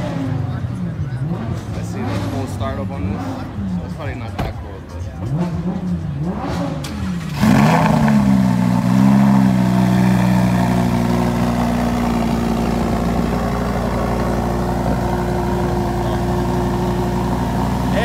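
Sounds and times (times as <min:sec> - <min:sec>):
car engine revving and idling: 0:00.0 - 0:18.0.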